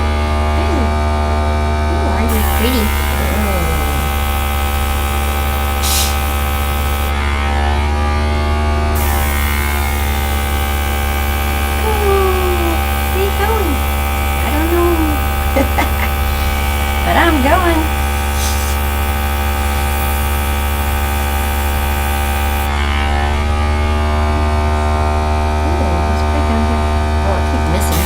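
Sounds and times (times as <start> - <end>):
electric air gun motor hum: 1.9 - 25.1.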